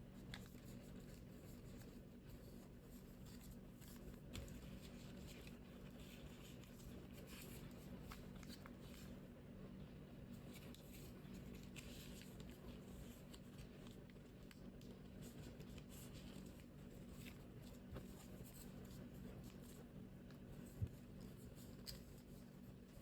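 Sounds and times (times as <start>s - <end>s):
paper rustling and folding: 0.0s - 9.4s, 10.2s - 23.0s
low steady hum: 0.0s - 23.0s.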